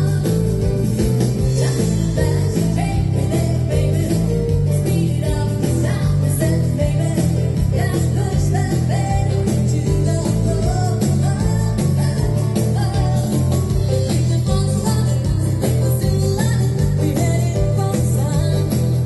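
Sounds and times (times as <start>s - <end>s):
rock and roll band playing: 0.0s - 19.0s
woman singing: 0.0s - 19.0s.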